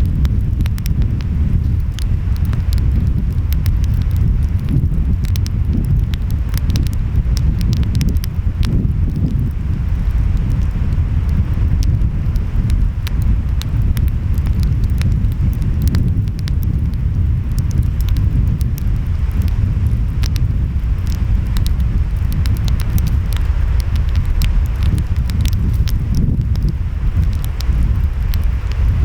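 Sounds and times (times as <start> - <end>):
wind: 0.0 - 29.0
wood fire crackling: 0.0 - 29.0.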